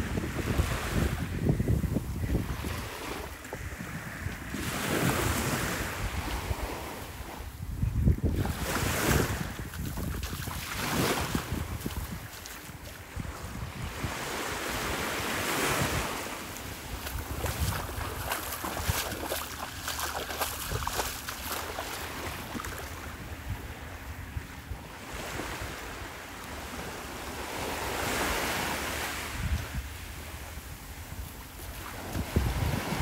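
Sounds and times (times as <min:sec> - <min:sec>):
wind buffeting microphone: 0:00.0 - 0:25.4, 0:29.2 - 0:33.0
small waves washing onto beach: 0:00.0 - 0:33.0.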